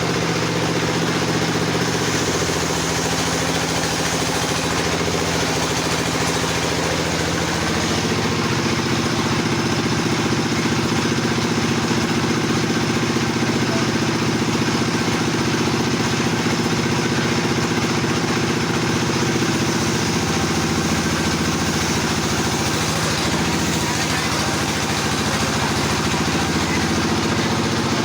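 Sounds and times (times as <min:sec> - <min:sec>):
chainsaw running: 0:00.0 - 0:28.0.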